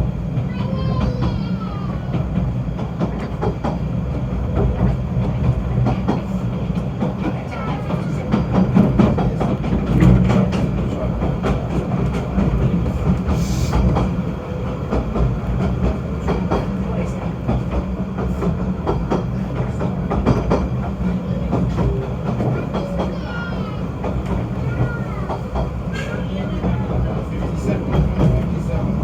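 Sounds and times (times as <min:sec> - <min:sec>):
train rumbling on rack railway: 0:00.0 - 0:29.0
wheels clattering on track: 0:00.0 - 0:29.0.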